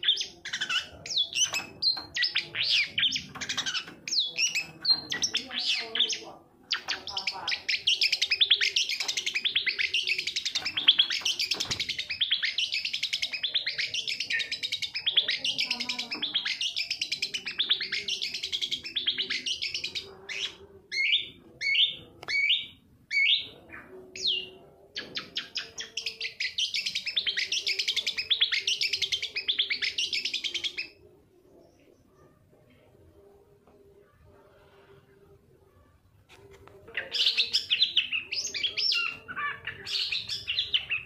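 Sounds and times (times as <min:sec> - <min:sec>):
bird chattering song: 0:00.0 - 0:31.0, 0:36.9 - 0:41.0.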